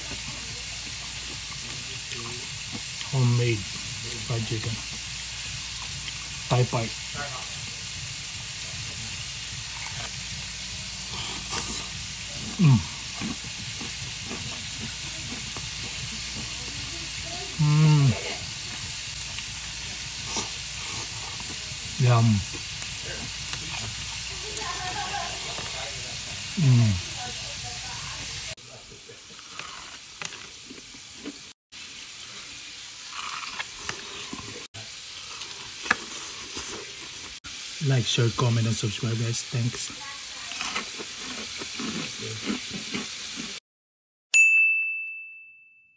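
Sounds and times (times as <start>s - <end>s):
chicken sizzling in hot oil: 0.0s - 43.6s
oil crackles and pops: 0.0s - 43.6s.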